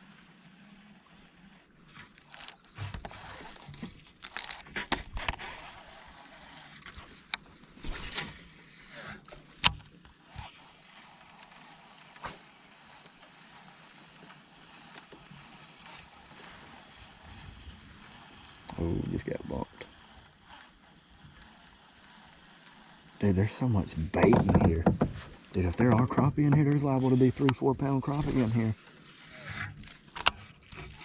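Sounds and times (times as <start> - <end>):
fishing gear clicking and rattling: 0.0 - 31.0.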